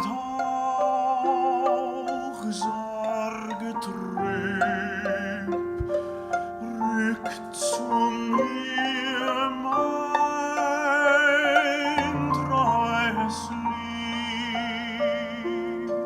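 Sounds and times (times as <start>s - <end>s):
operatic voice singing with vibrato: 0.0s - 5.9s, 6.6s - 16.0s
instrumental accompaniment: 0.0s - 16.0s.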